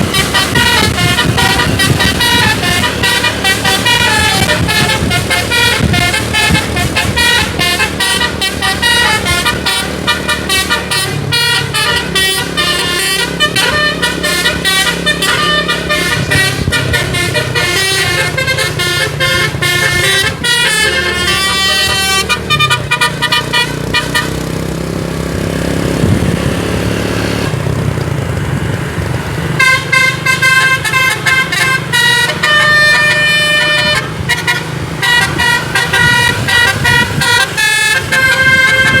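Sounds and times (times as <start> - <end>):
musical air horn: 0.0 - 24.5, 29.6 - 39.0
bus engine: 0.0 - 39.0.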